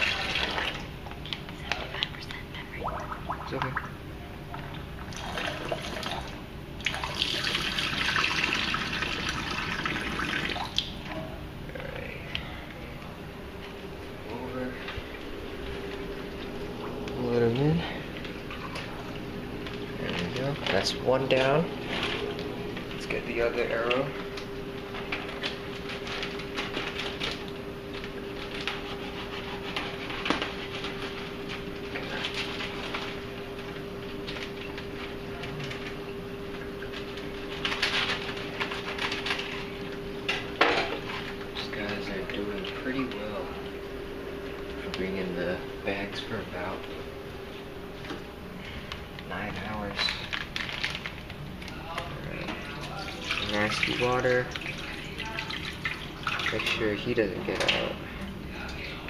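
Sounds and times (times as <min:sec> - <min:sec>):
aquarium filter bubbling: 0:00.0 - 0:29.7, 0:30.6 - 0:49.4, 0:50.0 - 0:59.0
steady hum: 0:00.0 - 0:59.0.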